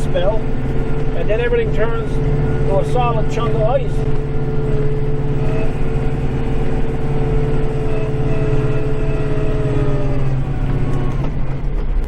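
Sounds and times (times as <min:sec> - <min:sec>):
tractor diesel engine droning: 0:00.0 - 0:12.0.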